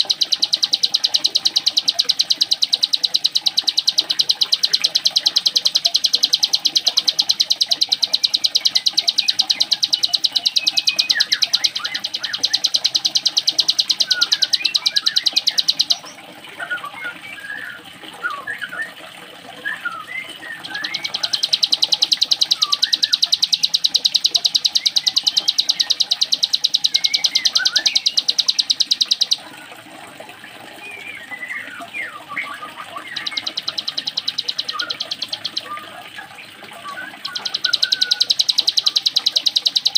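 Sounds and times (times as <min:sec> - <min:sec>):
bird short chirps: 0:00.0 - 0:16.2, 0:19.7 - 0:29.4, 0:30.9 - 0:36.0, 0:36.8 - 0:39.9.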